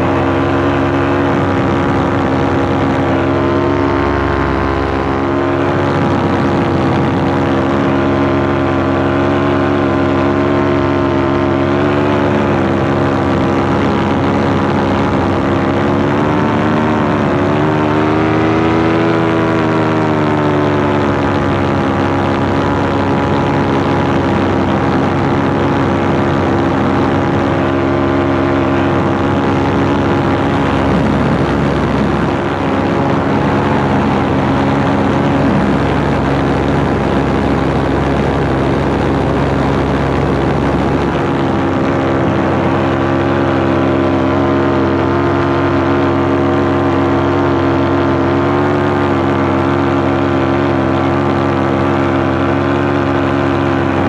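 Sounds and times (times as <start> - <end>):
paramotor engine drone: 0.0 - 54.0.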